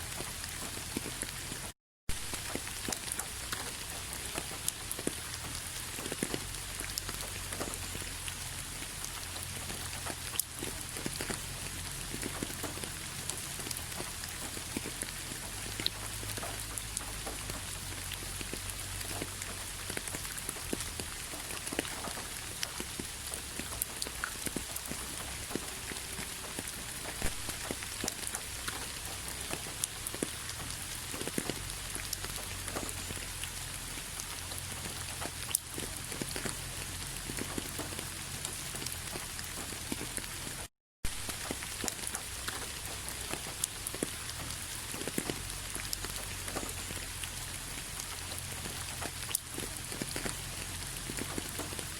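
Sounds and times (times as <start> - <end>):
rain falling: 0.0 - 51.9
raindrops tapping a surface: 0.0 - 51.9.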